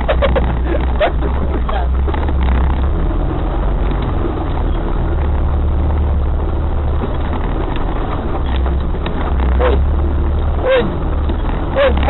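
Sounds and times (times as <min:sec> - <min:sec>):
road and drivetrain noise: 0:00.0 - 0:12.0
vehicle engine rumbling: 0:00.0 - 0:12.0.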